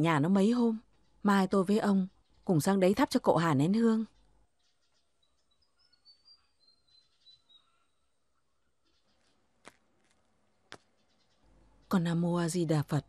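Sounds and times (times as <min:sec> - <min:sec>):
faint bird chirping: 0:00.0 - 0:13.0.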